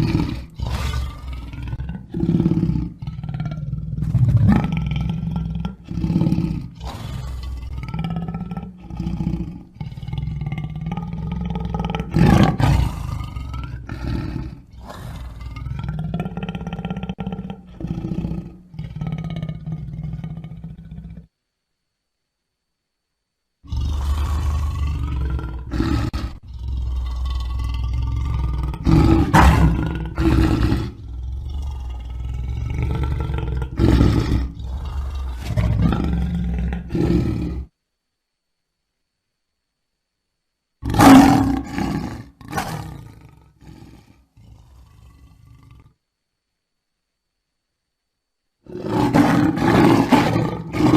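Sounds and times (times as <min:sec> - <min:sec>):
lion growling and roaring: 0:00.0 - 0:21.3, 0:23.6 - 0:37.7, 0:40.8 - 0:46.0, 0:48.6 - 0:50.9.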